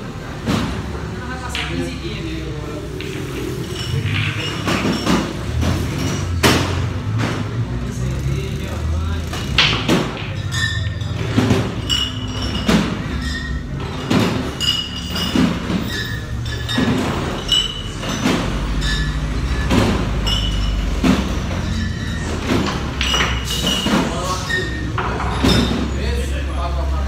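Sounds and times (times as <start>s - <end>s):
pool balls knocking: 0.3s - 7.8s, 9.2s - 26.0s.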